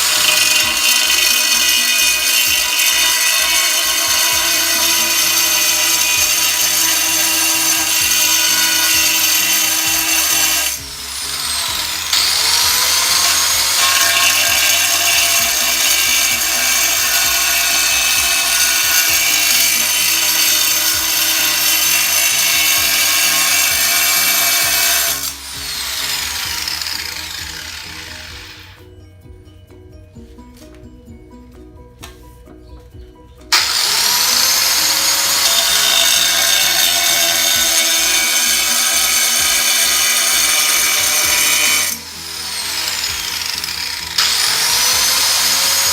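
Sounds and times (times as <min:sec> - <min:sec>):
angle grinder whining: 0:00.0 - 0:28.8, 0:33.5 - 0:45.9.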